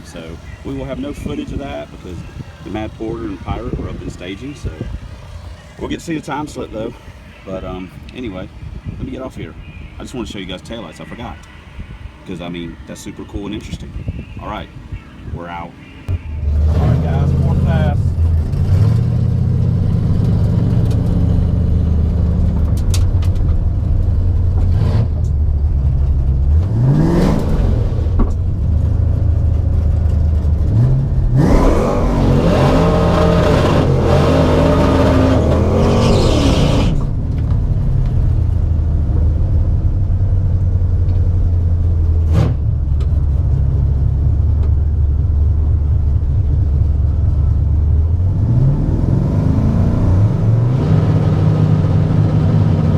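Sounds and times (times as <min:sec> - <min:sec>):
v eight engine revving and racing: 0:00.0 - 0:08.4, 0:15.2 - 0:52.9.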